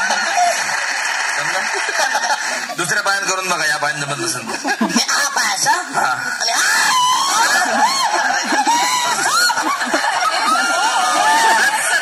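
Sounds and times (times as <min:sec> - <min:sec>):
audience laughing and shouting: 0:00.0 - 0:03.3, 0:04.4 - 0:12.0.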